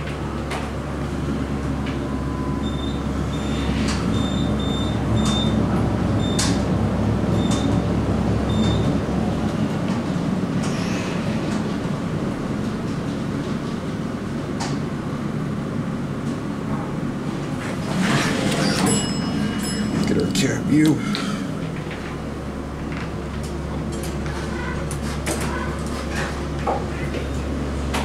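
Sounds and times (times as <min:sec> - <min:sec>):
elevator rumble and hum: 0:00.0 - 0:28.0.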